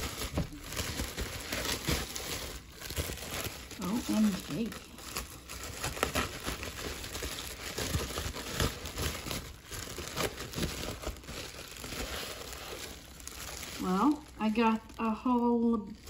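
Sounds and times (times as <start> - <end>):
bubble wrap crinkling: 0.0 - 16.0
sharp plastic crackles: 0.0 - 16.0.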